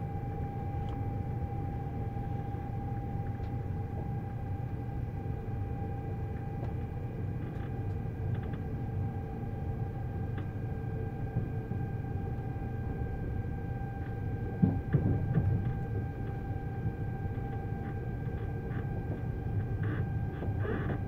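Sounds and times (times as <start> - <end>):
low train running rumble: 0.0 - 21.0
train traction inverter whine: 0.0 - 21.0.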